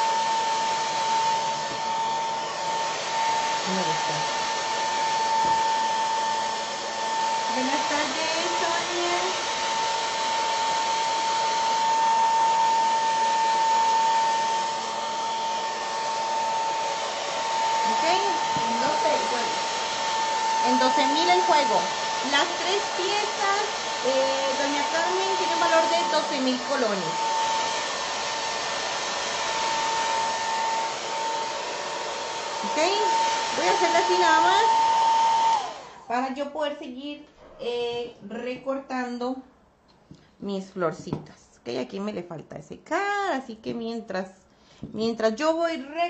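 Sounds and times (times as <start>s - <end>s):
hair dryer running: 0.0s - 37.0s, 40.9s - 42.0s.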